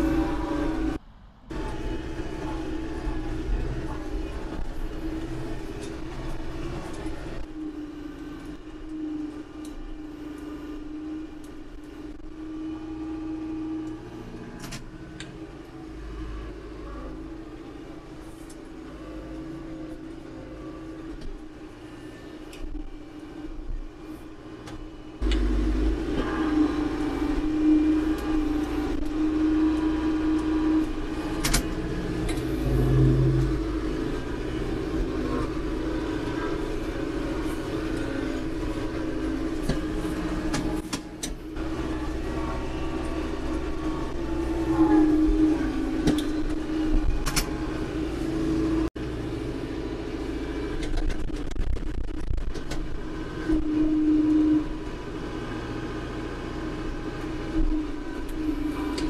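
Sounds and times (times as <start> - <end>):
tractor diesel engine running: 0.0 - 53.4.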